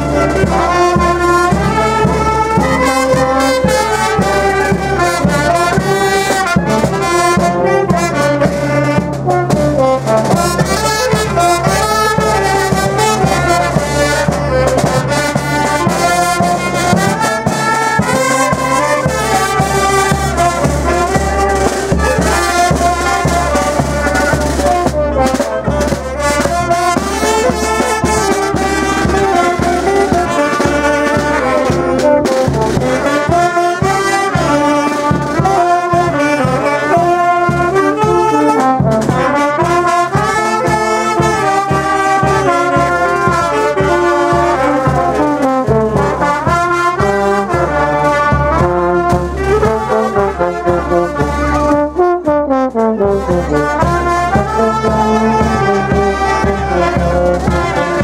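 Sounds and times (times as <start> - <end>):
brass band playing lively tune: 0.0 - 58.0
drums keeping a beat: 0.0 - 58.0.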